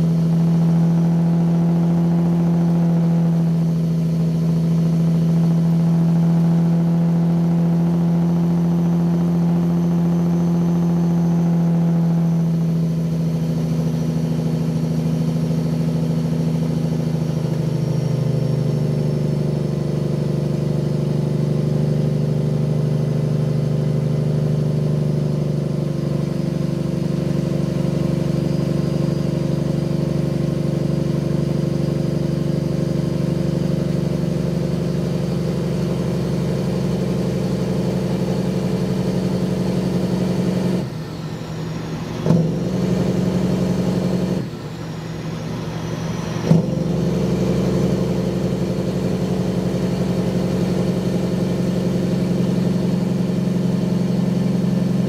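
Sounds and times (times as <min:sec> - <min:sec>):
truck diesel engine pulling: 0:00.0 - 0:55.0.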